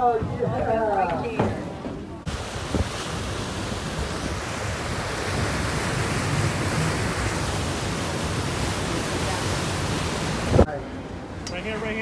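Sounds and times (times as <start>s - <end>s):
water churning in boat wake: 1.5s - 12.0s.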